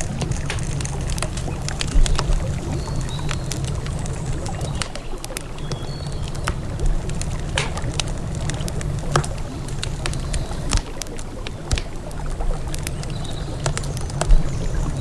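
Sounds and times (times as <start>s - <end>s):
campfire crackling and popping: 0.0s - 15.0s
flowing river water: 0.0s - 15.0s.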